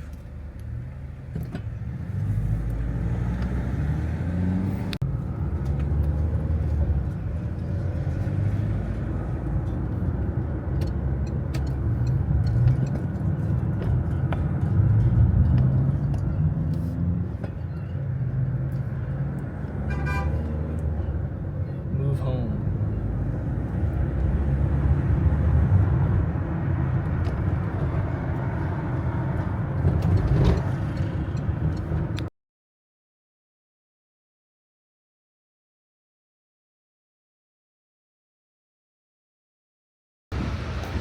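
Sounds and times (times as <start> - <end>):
vehicle engine and road rumble: 0.0 - 32.3, 40.3 - 41.0.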